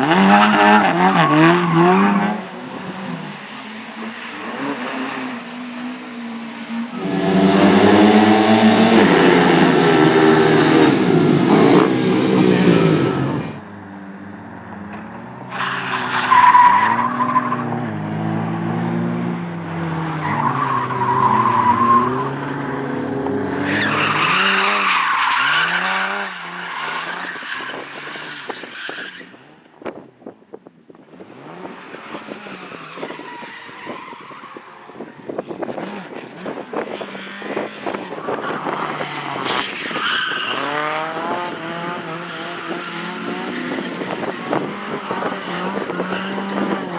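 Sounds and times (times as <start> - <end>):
tyres squealing and skidding: 0.0 - 13.6, 15.4 - 17.9, 19.8 - 29.6, 31.1 - 46.9
rally car engines revving: 0.0 - 30.0, 30.9 - 46.9.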